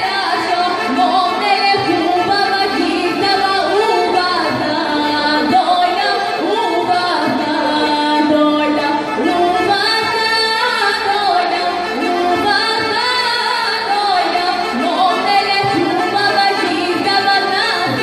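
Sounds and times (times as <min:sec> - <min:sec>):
bagpipe: 0:00.0 - 0:18.0
woman singing into a microphone: 0:00.0 - 0:18.0.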